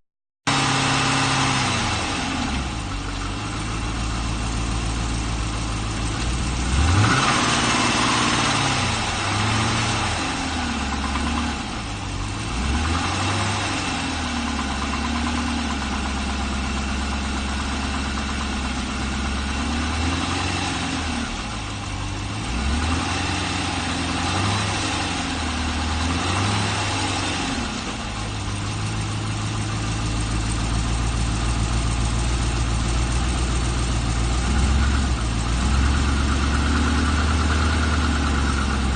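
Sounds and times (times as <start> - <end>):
engine idling and revving: 0.4 - 38.9.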